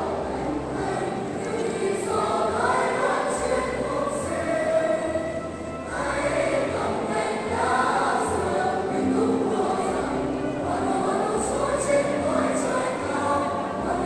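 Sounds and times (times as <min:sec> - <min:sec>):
choir singing a slow hymn: 0:00.0 - 0:14.0.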